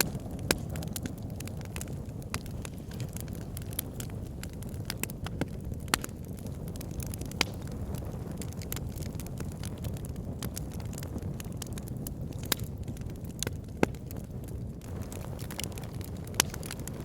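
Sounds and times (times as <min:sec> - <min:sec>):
log fire crackling and popping: 0:00.0 - 0:17.0.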